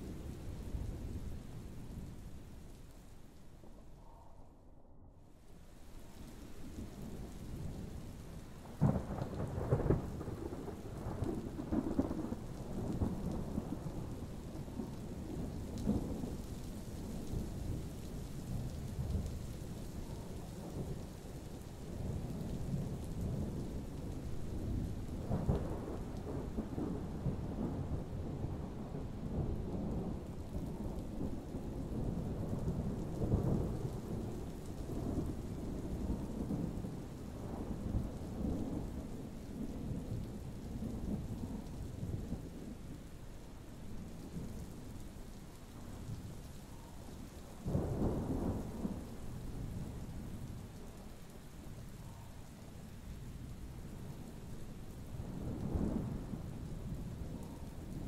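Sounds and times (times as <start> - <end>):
steady rain: 0.0 - 4.2, 5.1 - 58.0
thunder rumbling: 6.4 - 58.0.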